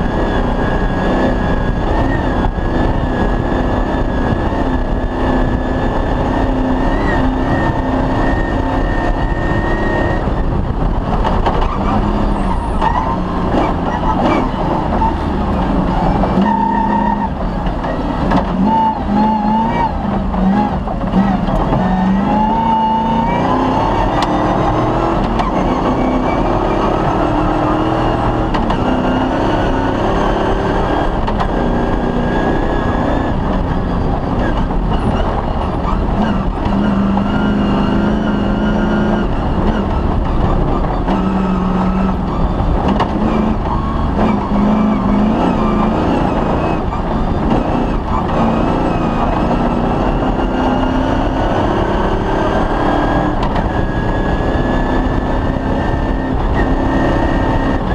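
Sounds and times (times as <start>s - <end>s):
rally car engine revving: 0.0s - 57.9s
rough road noise: 0.0s - 57.9s.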